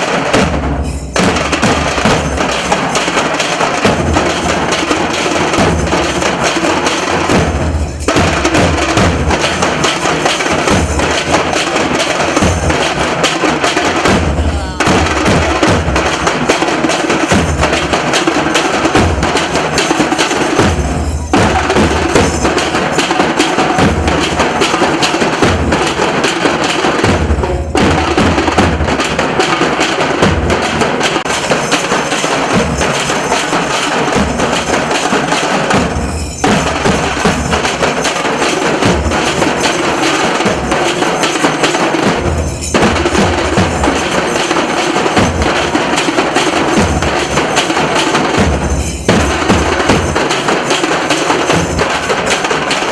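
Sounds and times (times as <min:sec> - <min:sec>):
dhol drums playing fast beat: 0:00.0 - 0:52.9.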